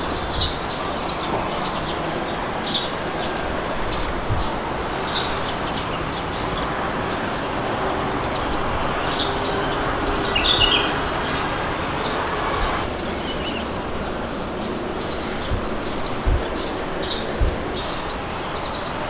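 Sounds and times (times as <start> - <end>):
small birds chirping: 0.0 - 19.0
wind noise: 0.0 - 19.0.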